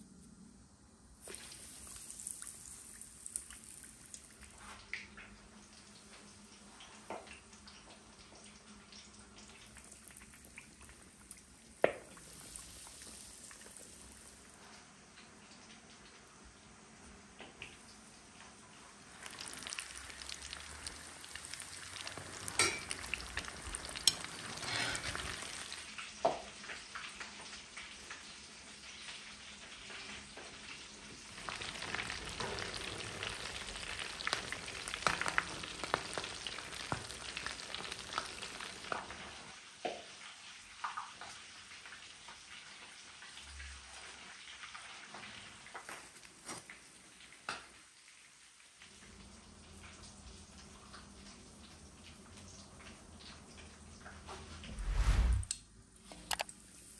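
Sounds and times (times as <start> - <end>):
chicken deep-frying in oil: 0.0 - 55.4.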